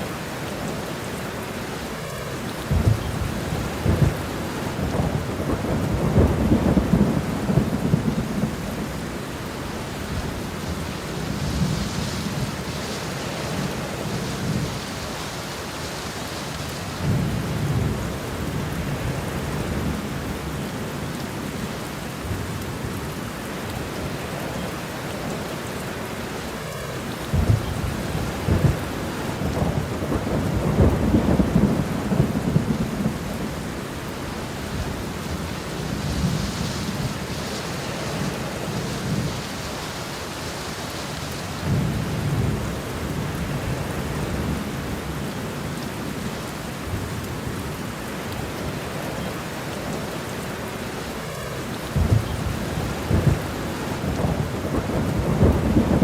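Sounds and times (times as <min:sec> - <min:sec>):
steady rain: 0:00.0 - 0:56.0
thunder rumbling: 0:02.5 - 0:20.7, 0:26.7 - 0:46.2, 0:48.6 - 0:56.0.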